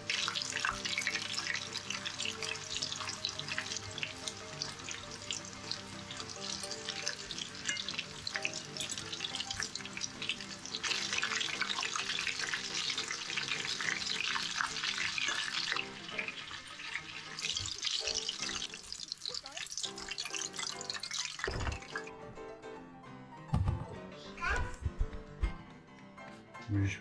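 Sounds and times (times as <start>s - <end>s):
deep-frying sizzle in oil: 0.0s - 22.1s.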